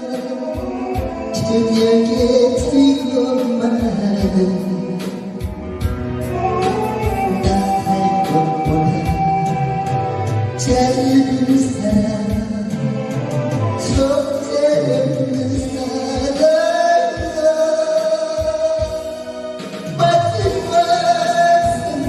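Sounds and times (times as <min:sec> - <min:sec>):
backing track music: 0:00.0 - 0:22.0
person singing: 0:00.0 - 0:22.0.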